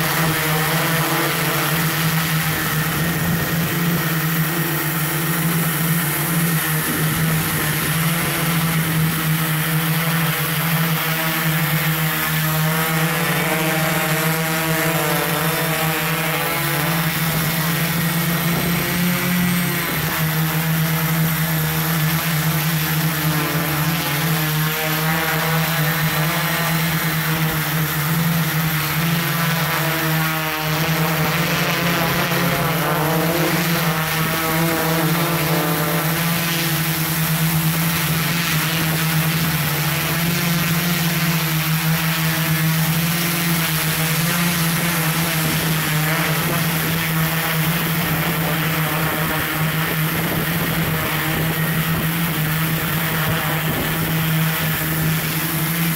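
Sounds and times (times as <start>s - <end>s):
drone propellers humming: 0.0s - 55.9s.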